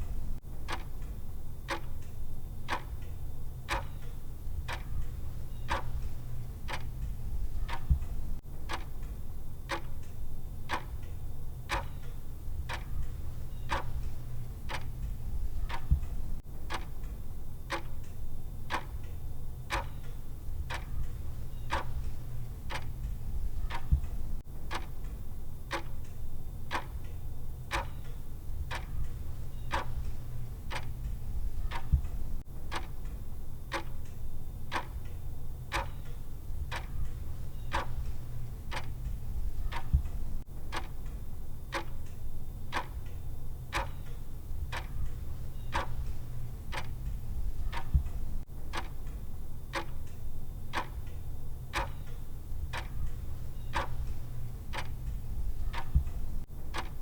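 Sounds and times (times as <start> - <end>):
clock ticking: 0.0 - 57.0
low steady hum: 0.0 - 57.0.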